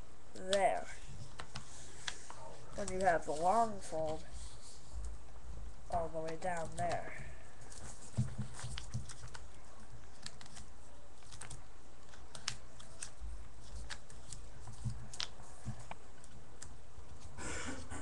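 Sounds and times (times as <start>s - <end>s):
paper crackling and rustling: 1.2s - 5.1s, 5.9s - 17.3s.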